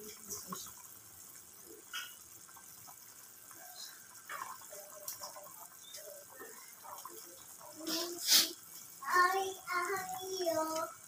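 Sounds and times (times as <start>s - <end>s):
soup bubbling: 0.0s - 11.0s.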